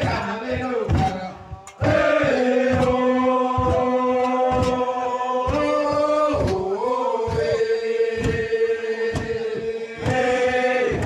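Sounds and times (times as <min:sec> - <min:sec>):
low thuds: 0:00.0 - 0:11.0
men chanting in unison: 0:00.0 - 0:11.0.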